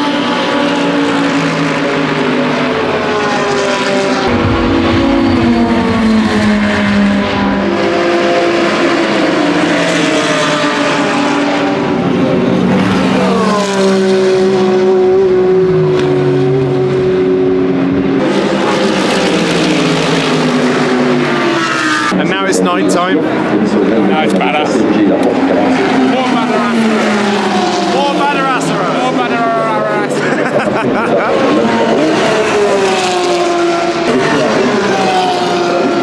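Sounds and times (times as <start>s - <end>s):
race car engines passing: 0.0s - 36.0s.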